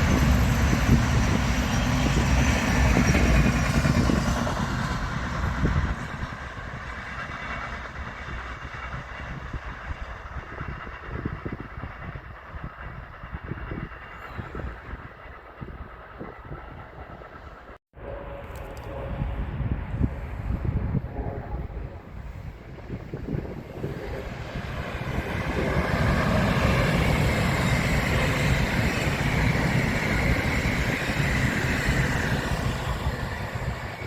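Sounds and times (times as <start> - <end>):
train rumbling past: 0.0 - 34.0.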